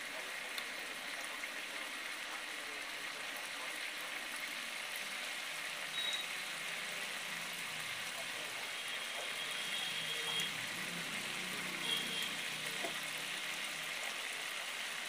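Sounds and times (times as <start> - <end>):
gravy sizzling with bubble pops: 0.0 - 15.0.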